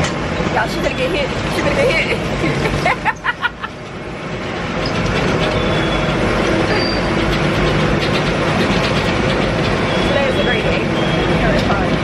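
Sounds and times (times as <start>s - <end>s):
wagon rumbling and rattling: 0.0s - 12.0s.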